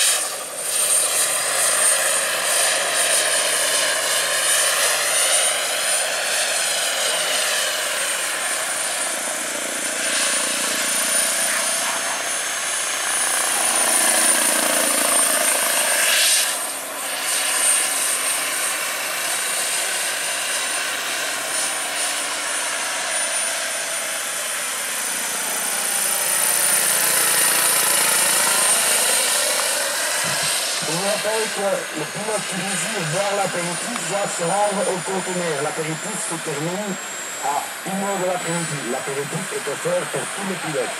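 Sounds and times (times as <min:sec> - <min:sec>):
model helicopter turbine whine: 0:00.0 - 0:40.9.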